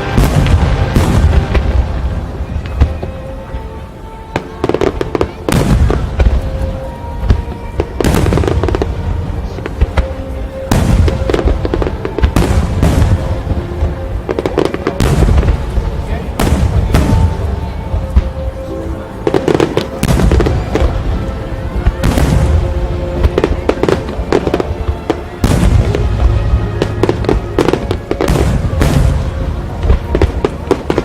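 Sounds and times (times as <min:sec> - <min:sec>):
fireworks booming: 0:00.0 - 0:31.0
fireworks crackling: 0:00.0 - 0:31.0.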